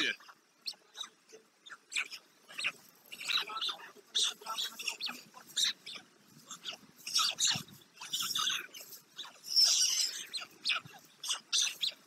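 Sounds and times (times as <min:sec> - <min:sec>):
straw and sticks rustling: 0:00.0 - 0:12.0.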